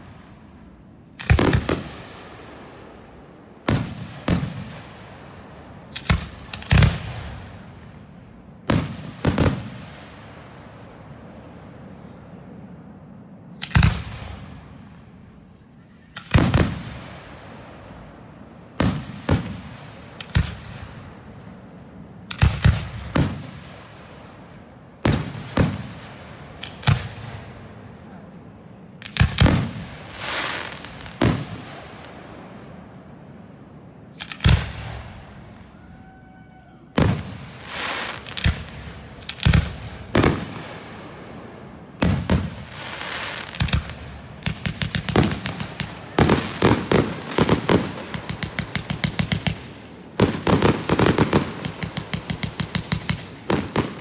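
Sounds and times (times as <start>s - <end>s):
fireworks exploding with echo: 0.0s - 54.0s.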